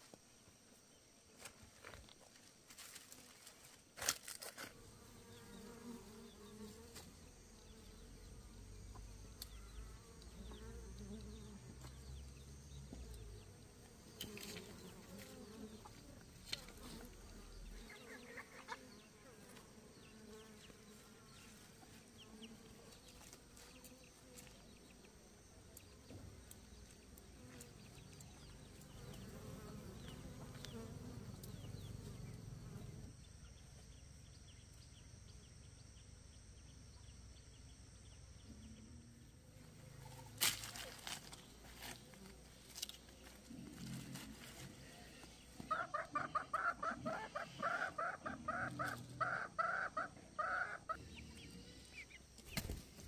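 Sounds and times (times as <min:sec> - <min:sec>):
insect buzzing: 0:00.0 - 0:53.0.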